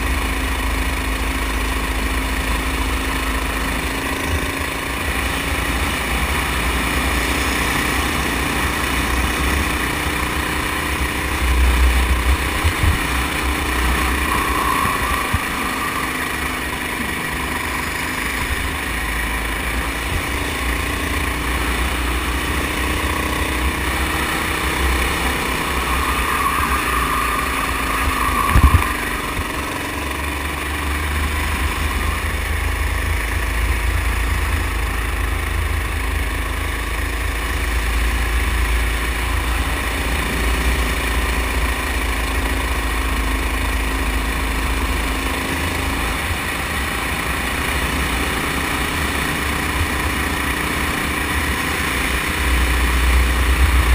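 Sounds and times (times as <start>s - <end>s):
go-kart engine rumbling: 0.0s - 53.9s.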